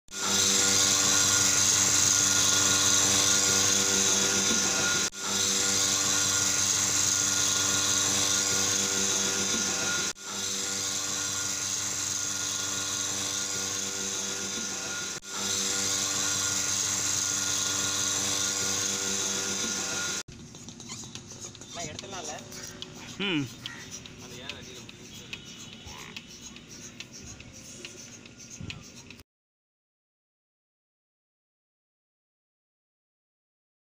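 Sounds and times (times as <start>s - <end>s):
vacuum pump humming and hissing: 0.1s - 29.2s.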